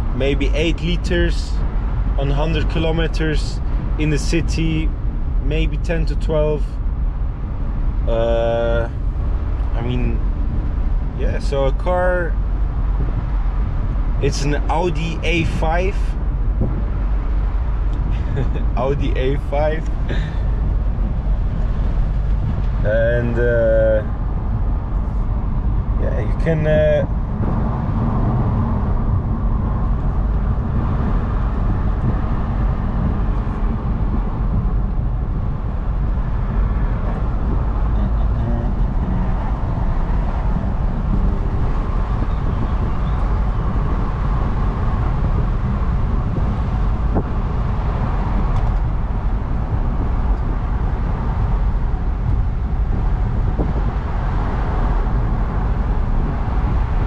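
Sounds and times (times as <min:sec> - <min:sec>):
car engine running: 0:00.0 - 0:57.0
wind and road noise: 0:00.0 - 0:57.0.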